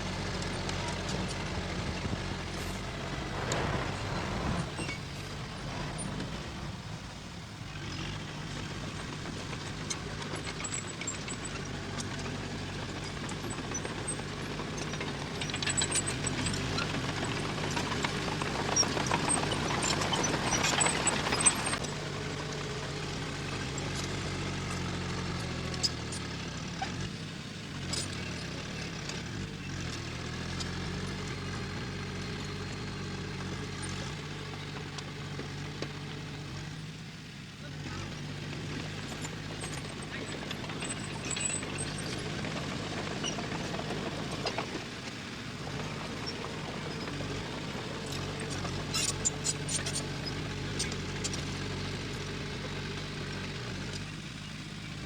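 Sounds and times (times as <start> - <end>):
diesel machinery engine running: 0.0 - 55.0.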